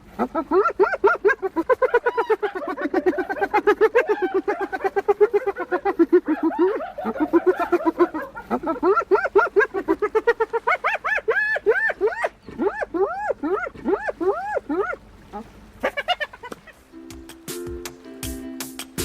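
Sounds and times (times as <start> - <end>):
hyena giggling: 0.2 - 16.9.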